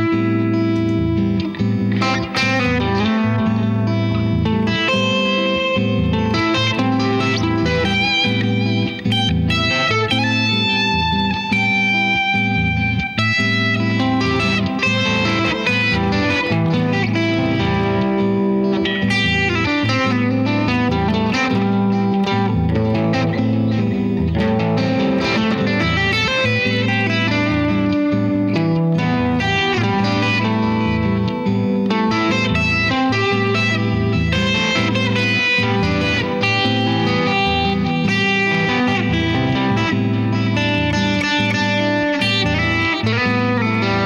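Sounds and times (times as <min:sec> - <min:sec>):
clean electric guitar: 0:00.0 - 0:44.0.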